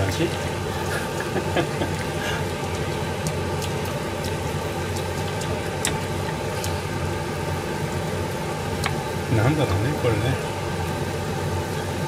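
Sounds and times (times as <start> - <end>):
low mechanical hum: 0.0 - 12.0
pan simmering: 0.0 - 12.0.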